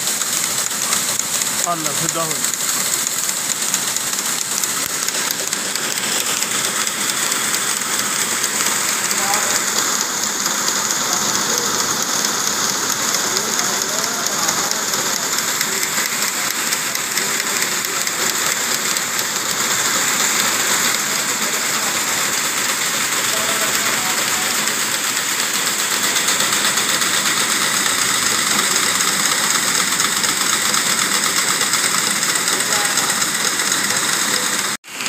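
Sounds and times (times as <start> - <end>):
knitting machine clatter: 0.0 - 35.0.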